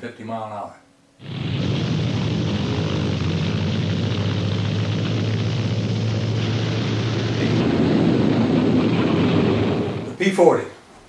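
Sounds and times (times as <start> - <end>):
propeller aircraft droning: 1.2 - 10.2.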